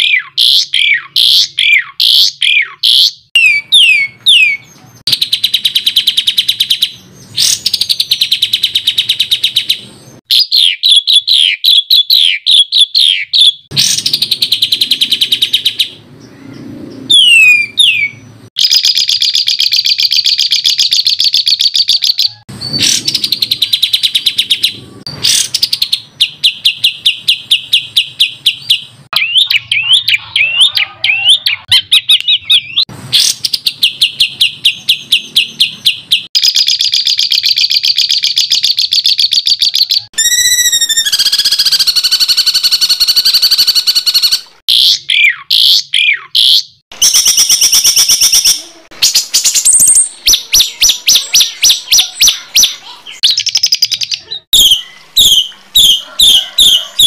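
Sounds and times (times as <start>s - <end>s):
songbird singing rapid notes: 0.0s - 56.9s.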